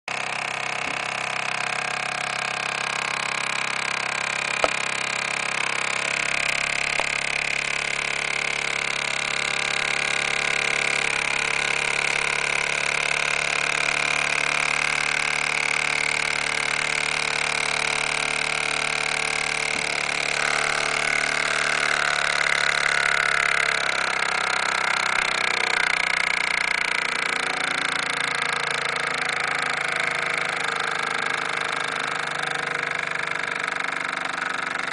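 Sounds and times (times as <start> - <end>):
model steam engine whirring: 0.1 - 34.9.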